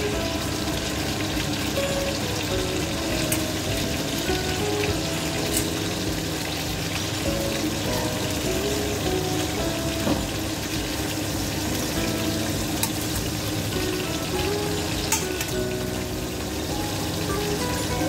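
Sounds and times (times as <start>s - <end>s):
background music: 0.0s - 18.0s
chicken sizzling in a pot: 0.0s - 18.0s.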